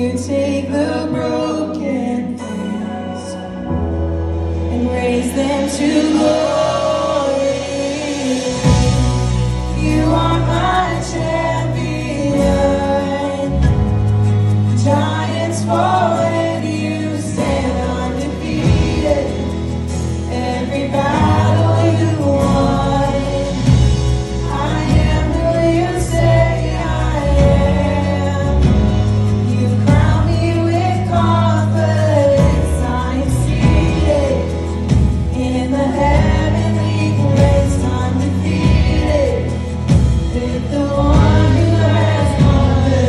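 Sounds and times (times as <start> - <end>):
worship band playing: 0.0 - 43.0
voices singing together: 4.7 - 13.9, 14.8 - 43.0.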